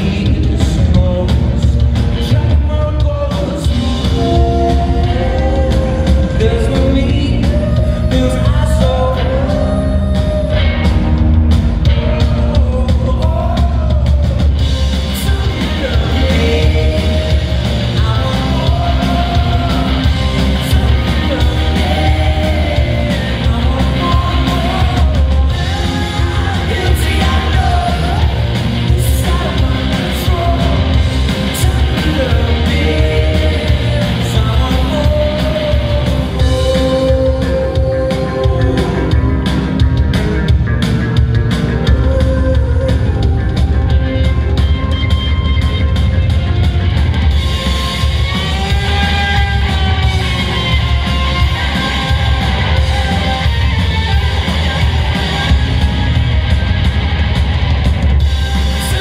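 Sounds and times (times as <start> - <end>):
person singing: 0.0 - 11.2, 11.8 - 40.1, 41.8 - 44.7, 47.3 - 56.1, 58.2 - 59.0
electric guitar: 0.0 - 59.0
heavy bass: 0.0 - 59.0.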